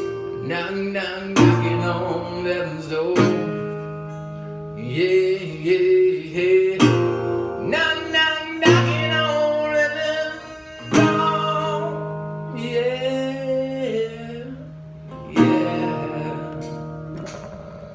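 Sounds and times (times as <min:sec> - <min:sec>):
resonator guitar strumming: 0:00.0 - 0:17.9
man singing: 0:00.3 - 0:03.8, 0:04.8 - 0:17.9.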